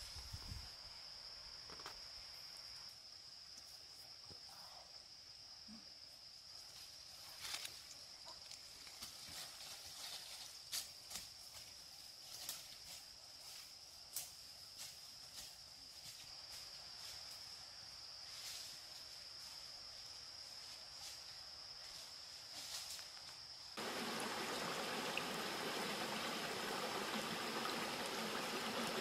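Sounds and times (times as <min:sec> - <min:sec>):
high-pitched insect trill: 0:00.0 - 0:29.0.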